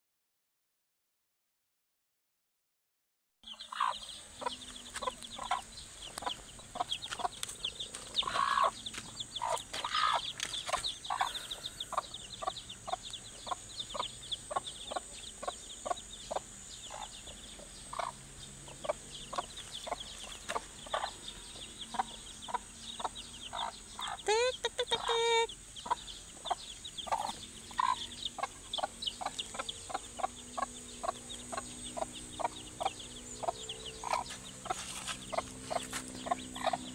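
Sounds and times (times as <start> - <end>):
chicks cheeping: 3.4 - 36.9
hen clucking: 3.5 - 36.9.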